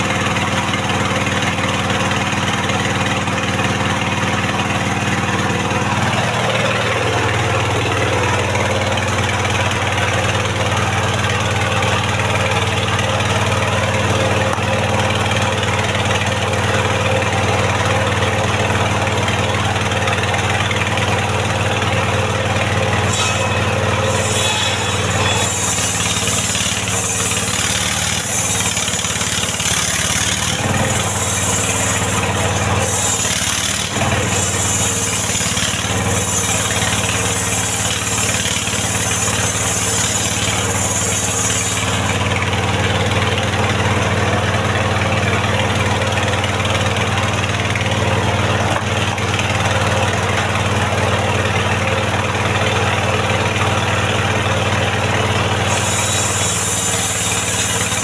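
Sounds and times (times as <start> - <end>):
circular saw cutting log: 0.0 - 58.0
sawmill engine running: 0.0 - 58.0.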